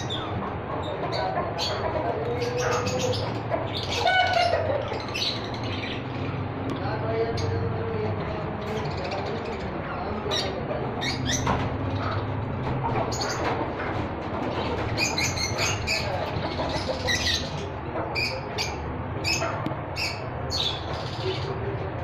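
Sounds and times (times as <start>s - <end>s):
pet birds chirping: 0.0s - 7.6s, 8.4s - 21.8s.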